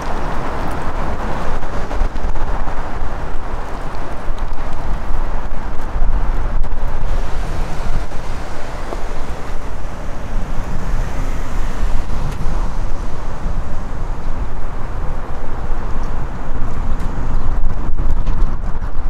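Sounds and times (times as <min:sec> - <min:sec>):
road traffic: 0:00.0 - 0:19.0
wind rumble on microphone: 0:00.0 - 0:19.0.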